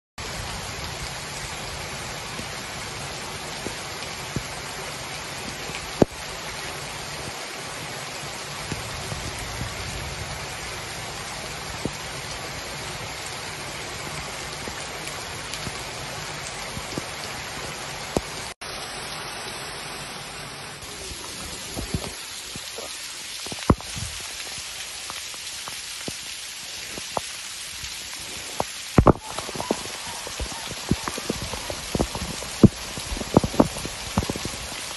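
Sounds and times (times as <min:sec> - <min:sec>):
raindrops ticking close by: 0:00.2 - 0:19.4, 0:20.8 - 0:34.9
heavy rain on pavement: 0:00.2 - 0:34.9.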